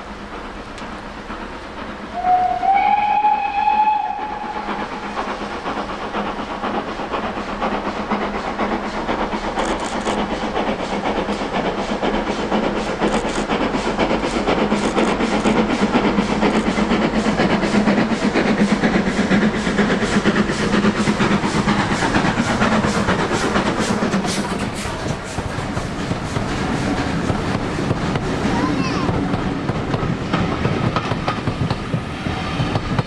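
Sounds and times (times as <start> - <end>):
steam train running: 0.0 - 33.0.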